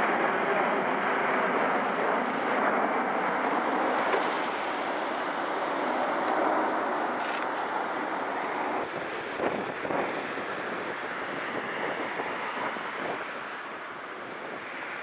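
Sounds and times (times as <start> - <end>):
jet airliner climbing: 0.0 - 15.0.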